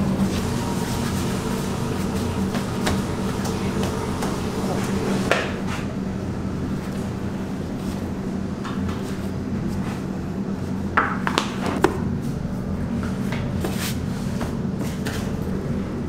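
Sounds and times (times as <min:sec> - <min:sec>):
kitchen equipment hum: 0:00.0 - 0:16.0.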